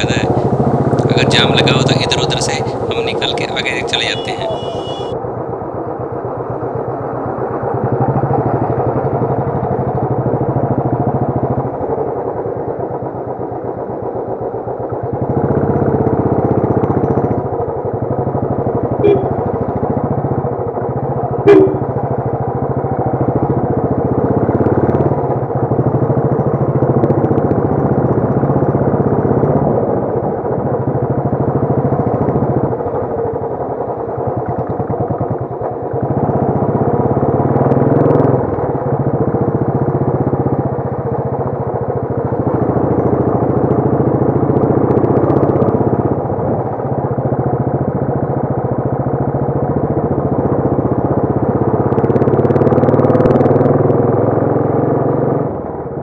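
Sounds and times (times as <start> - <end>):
motorcycle engine running: 0.0 - 5.2, 6.1 - 56.0.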